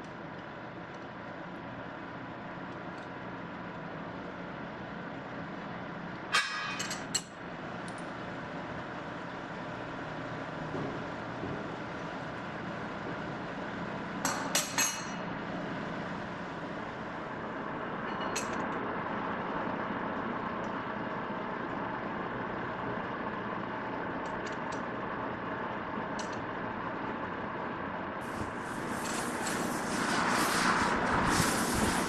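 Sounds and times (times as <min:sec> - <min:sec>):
machine shop running noise: 0:00.0 - 0:32.0.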